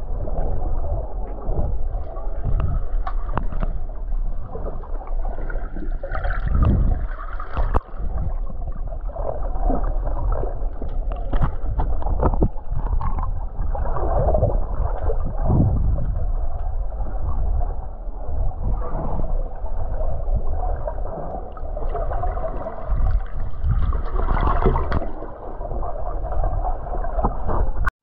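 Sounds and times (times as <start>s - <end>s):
deep rumble: 0.0s - 27.9s
muffled water gurgling and sloshing: 0.0s - 27.9s.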